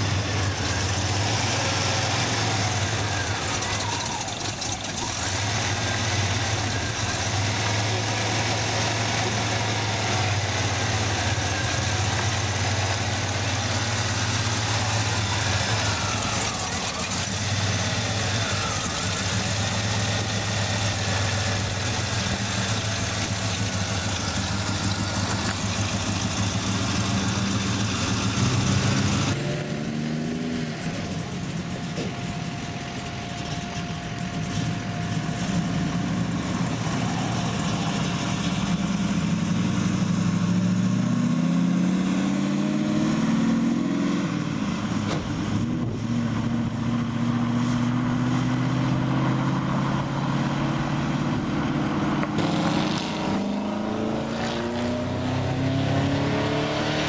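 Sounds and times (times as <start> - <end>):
car engines idling: 0.0 - 43.0, 44.2 - 56.4
car engine revving: 0.0 - 57.0.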